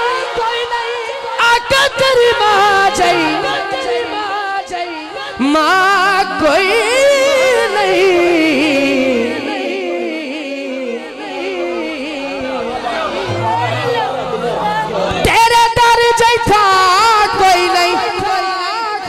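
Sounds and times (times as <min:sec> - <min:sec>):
man singing through a pa: 0:00.0 - 0:13.8, 0:15.1 - 0:19.0.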